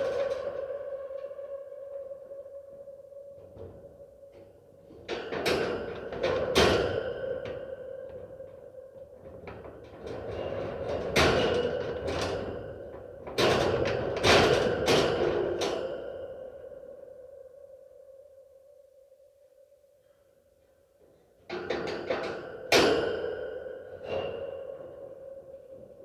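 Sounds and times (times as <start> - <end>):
droning ambience tone: 0.0 - 21.0, 22.2 - 26.0.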